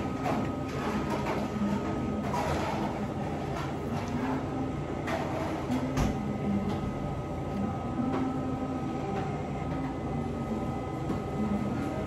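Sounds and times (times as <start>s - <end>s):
cafe room rumble: 0.0s - 12.0s
faint hum: 0.0s - 12.0s.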